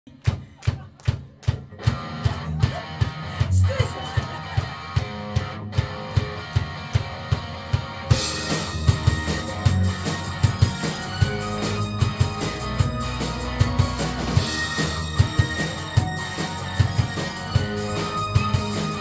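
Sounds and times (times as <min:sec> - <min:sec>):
live rock band playing: 0:01.7 - 0:19.0.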